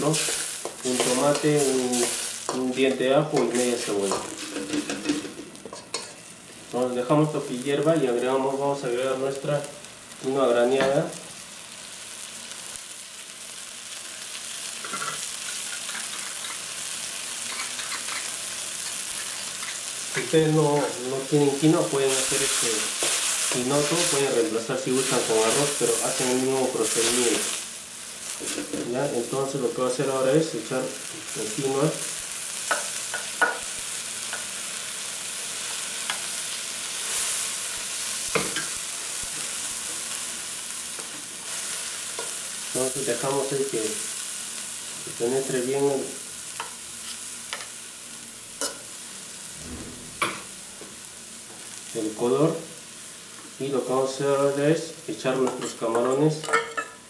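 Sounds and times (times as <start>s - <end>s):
stock sizzling and bubbling in a pan: 0.0s - 57.0s.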